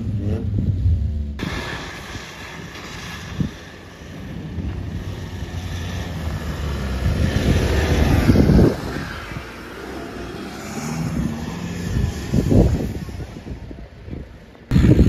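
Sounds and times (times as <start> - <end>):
engine revving under load: 0.0 - 13.8.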